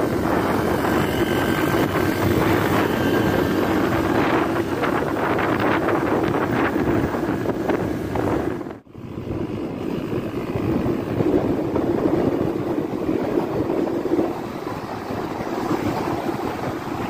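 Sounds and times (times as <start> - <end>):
motorcycle engine: 0.0 - 17.0
road noise: 0.0 - 17.0
wind rushing over microphone: 0.0 - 17.0.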